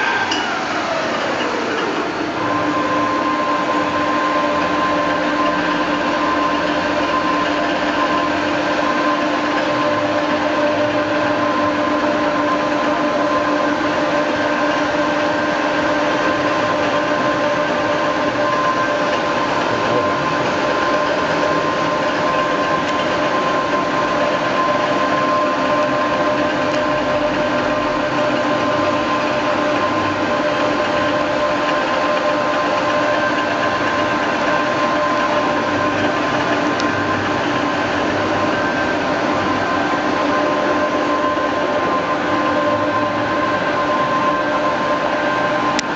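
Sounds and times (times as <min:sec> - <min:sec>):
machinery humming and whining: 0:00.0 - 0:45.9.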